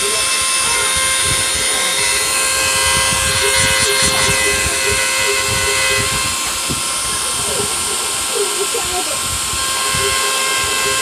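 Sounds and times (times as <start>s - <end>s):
hiss of cutting: 0.0s - 11.0s
router spindle motor whine: 0.0s - 11.0s.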